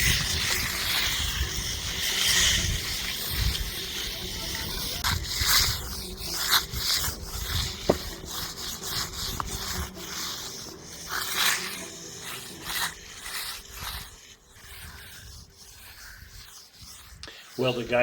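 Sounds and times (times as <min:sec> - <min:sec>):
steel trowels scraping concrete: 0:00.0 - 0:18.0.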